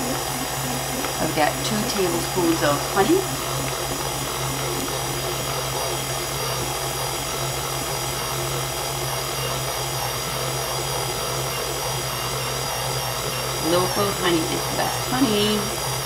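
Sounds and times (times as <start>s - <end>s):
stand mixer motor hum and whine: 0.0s - 16.0s.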